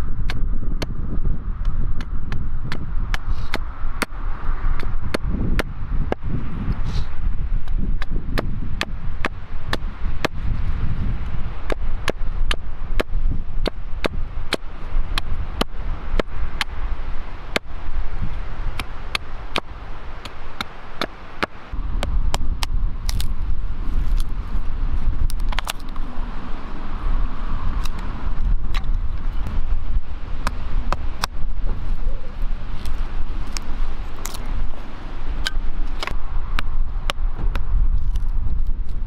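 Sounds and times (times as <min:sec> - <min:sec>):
wind on microphone: 0:00.0 - 0:39.0.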